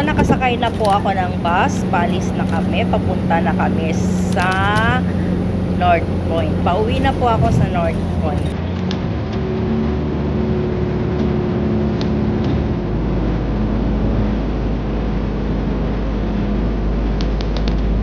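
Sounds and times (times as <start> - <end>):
bus engine and road noise: 0.0 - 18.0.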